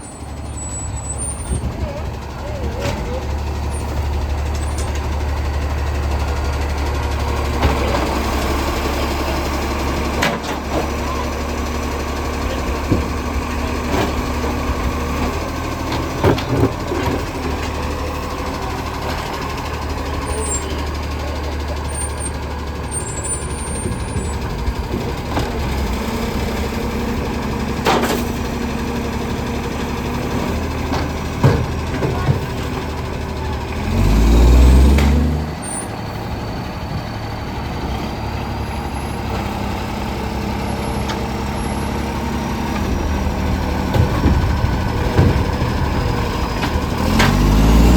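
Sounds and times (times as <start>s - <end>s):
diesel truck engine with exhaust roar: 0.0s - 47.9s.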